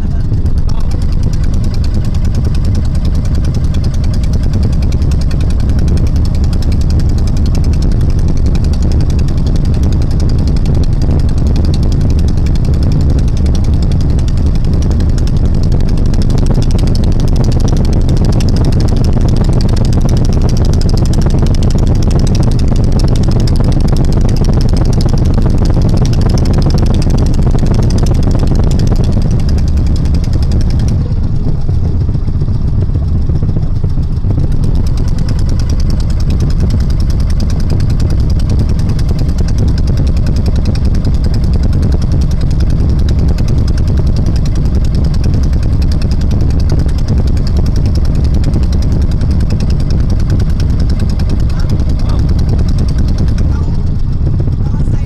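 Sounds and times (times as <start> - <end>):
boat engine chugging: 0.0 - 55.0.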